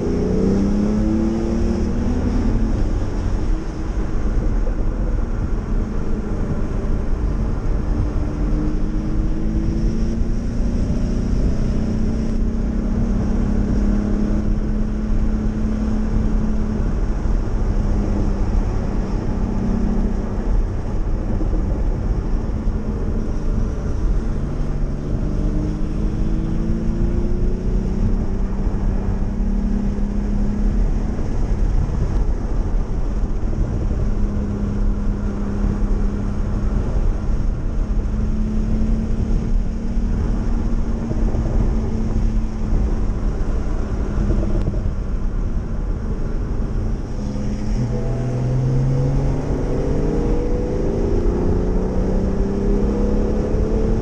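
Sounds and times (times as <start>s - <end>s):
car engine pulling hard: 0.0s - 54.0s
tyre and wind noise: 0.0s - 54.0s.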